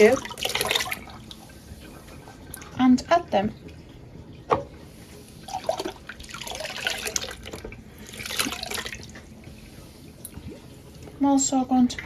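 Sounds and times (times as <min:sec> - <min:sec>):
water splashing and dripping: 0:00.0 - 0:02.8, 0:03.5 - 0:11.2.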